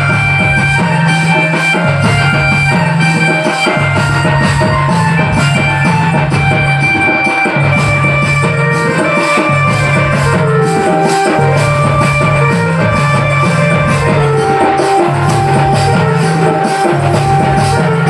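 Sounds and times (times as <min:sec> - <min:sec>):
hand drums beating: 0:00.0 - 0:18.0
melody of long held notes: 0:00.0 - 0:18.0.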